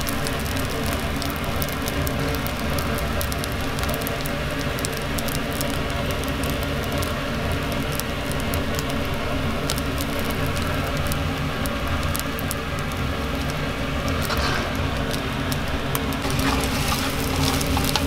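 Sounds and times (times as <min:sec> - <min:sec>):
rice sizzling in a hot pan: 0:00.0 - 0:18.0.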